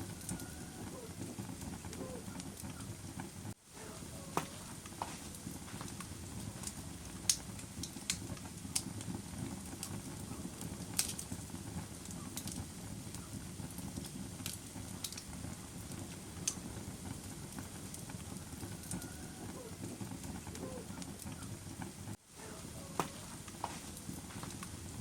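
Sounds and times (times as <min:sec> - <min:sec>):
bonfire burning: 0:00.0 - 0:25.0
fire pops and snaps: 0:00.0 - 0:25.0.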